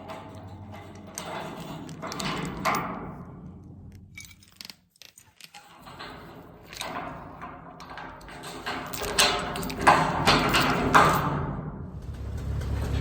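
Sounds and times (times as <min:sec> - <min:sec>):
metal jangling and clanking: 0:00.0 - 0:13.0.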